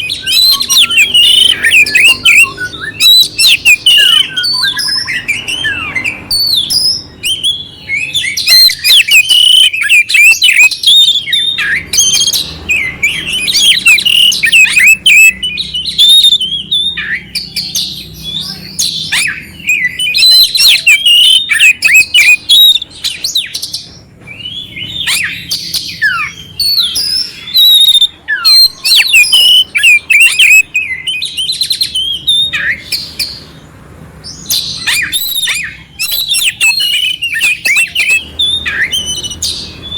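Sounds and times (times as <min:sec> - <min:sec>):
bird singing varied whistles: 0:00.0 - 0:33.4, 0:34.2 - 0:39.9
bird harsh chattering: 0:00.0 - 0:33.6, 0:34.2 - 0:39.9.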